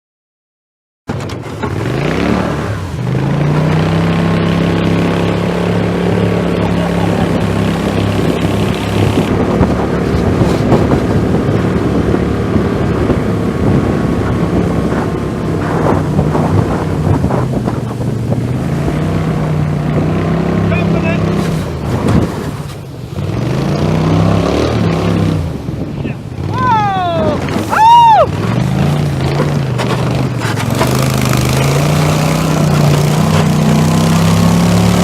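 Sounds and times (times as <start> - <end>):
boat motor running: 1.1 - 35.0
water noise: 1.1 - 35.0
wind on microphone: 1.1 - 35.0.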